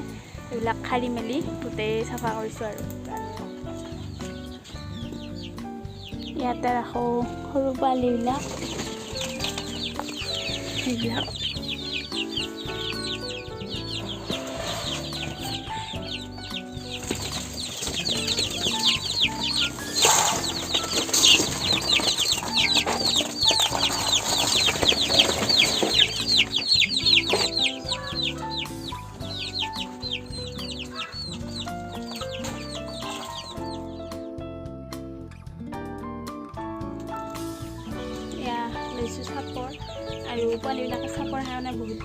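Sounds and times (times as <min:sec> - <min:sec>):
baby chicks peeping: 0:00.0 - 0:35.1, 0:36.8 - 0:42.0
background music: 0:00.0 - 0:42.0.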